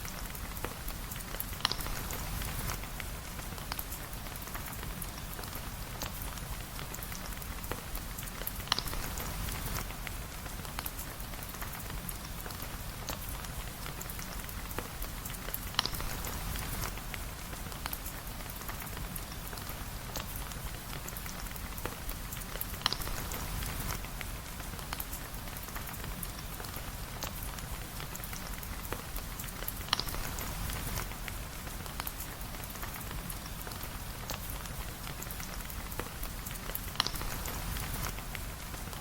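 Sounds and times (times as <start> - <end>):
steady rain patter: 0.0 - 39.0.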